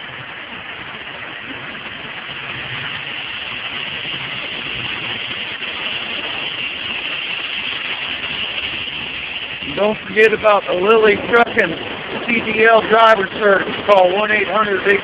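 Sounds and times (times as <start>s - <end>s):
truck engine idling: 0.0s - 15.0s
even hiss: 2.2s - 15.0s.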